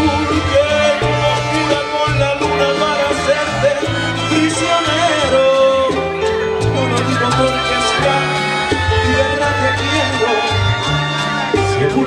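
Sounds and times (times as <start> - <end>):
salsa band playing: 0.0 - 12.0.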